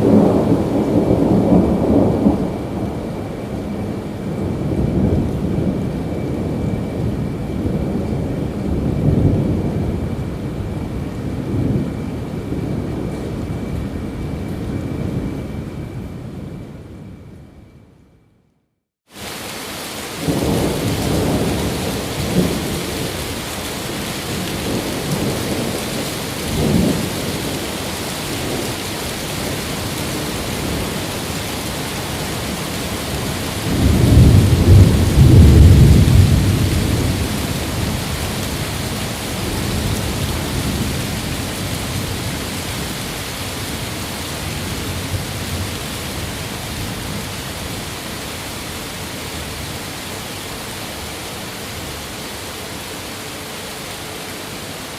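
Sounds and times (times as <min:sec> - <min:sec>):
steady rain: 0:00.0 - 0:17.4, 0:19.0 - 0:54.9
rolling thunder: 0:00.0 - 0:17.7, 0:20.0 - 0:47.9.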